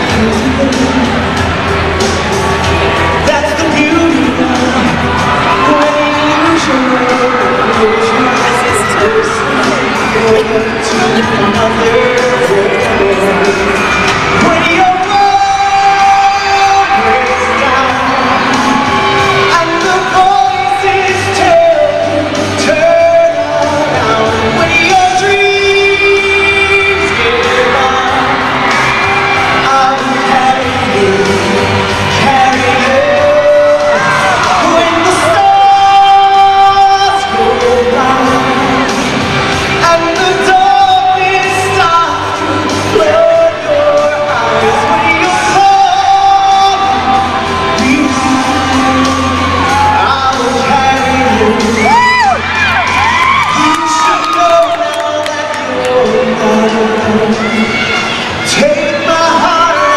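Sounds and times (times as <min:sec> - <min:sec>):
backing music: 0:00.0 - 0:59.9
man singing into microphone: 0:00.0 - 0:59.9.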